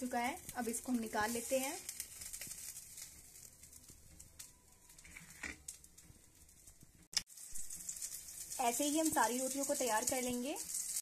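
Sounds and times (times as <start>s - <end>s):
hot ghee hissing: 0.0s - 11.0s.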